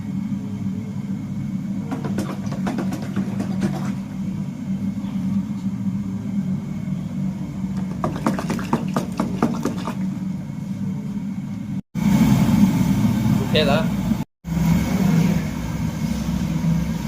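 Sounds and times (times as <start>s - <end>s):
motor humming: 0.8s - 17.0s.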